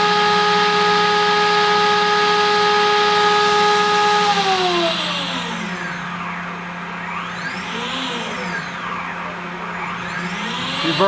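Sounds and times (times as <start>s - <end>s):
machine spindle whining: 0.0s - 11.0s.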